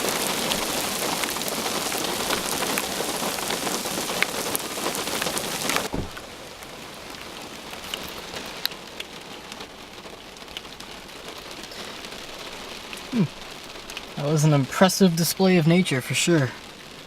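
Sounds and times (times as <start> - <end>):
heavy rain falling: 0.0 - 17.0
light rain with separate drops: 0.0 - 17.0.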